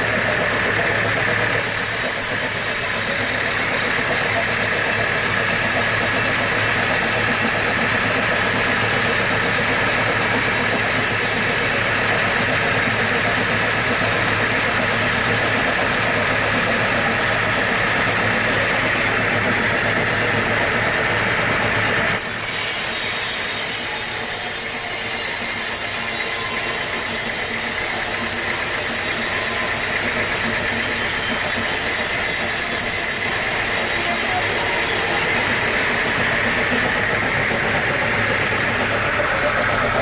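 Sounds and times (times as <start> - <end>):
sawmill machinery motor hum: 0.0 - 40.0.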